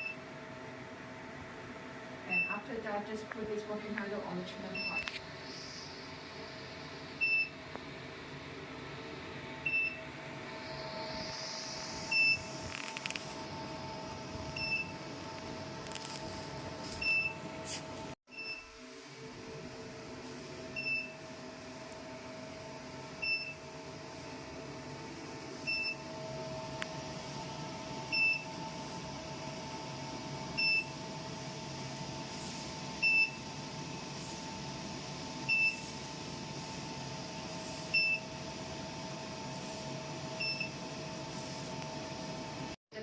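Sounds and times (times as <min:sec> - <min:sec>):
machine electronic hum: 0:00.0 - 0:42.8.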